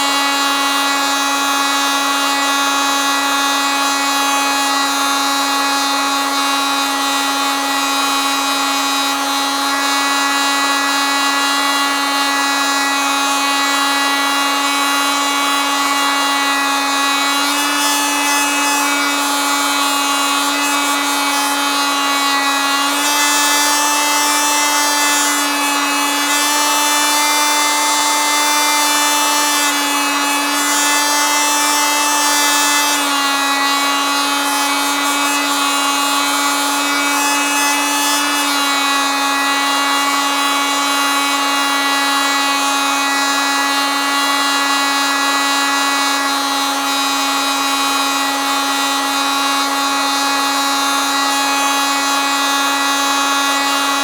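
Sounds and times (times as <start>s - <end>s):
oscillating multitool buzzing: 0.0s - 54.0s.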